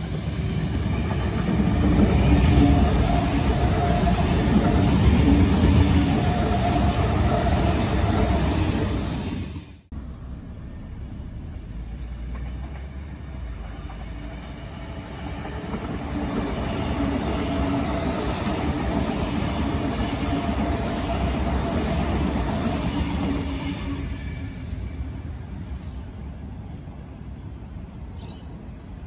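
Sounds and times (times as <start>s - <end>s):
electric train rumbling on rails: 0.0s - 29.0s.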